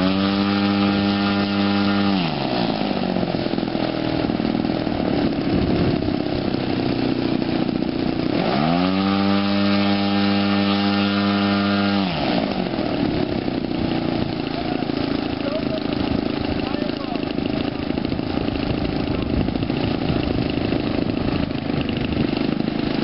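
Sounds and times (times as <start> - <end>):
model plane engine revving: 0.0 - 23.0.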